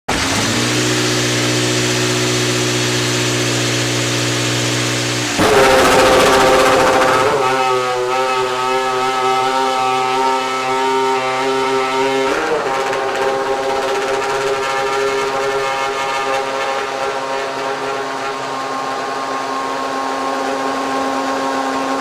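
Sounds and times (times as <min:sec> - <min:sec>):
racing car engine running: 0:00.1 - 0:22.0.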